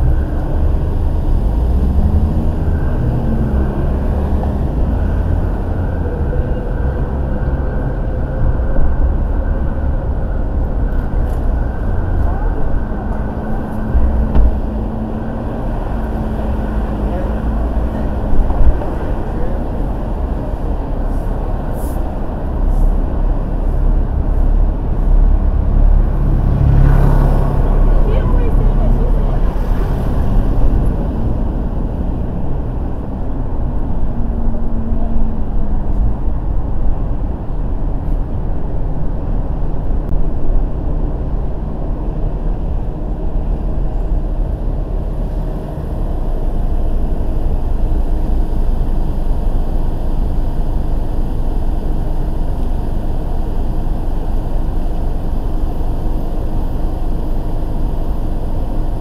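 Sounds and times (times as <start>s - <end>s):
car driving road noise: 0.0s - 59.0s.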